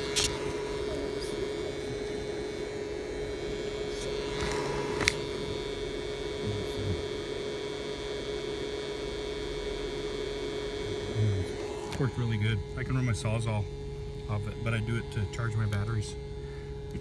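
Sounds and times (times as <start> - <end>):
power inverter electrical hum: 0.0 - 17.0.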